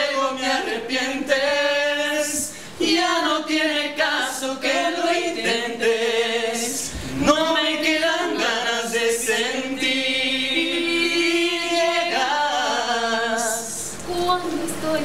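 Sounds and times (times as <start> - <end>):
people singing a cappella harmony: 0.0 - 14.0.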